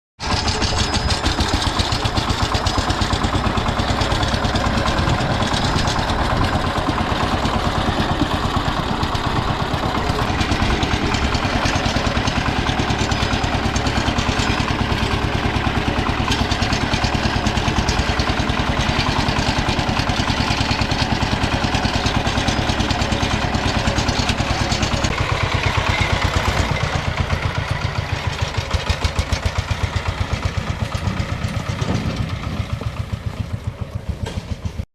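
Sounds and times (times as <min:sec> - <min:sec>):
walk-behind tractor diesel engine: 0:00.2 - 0:34.9.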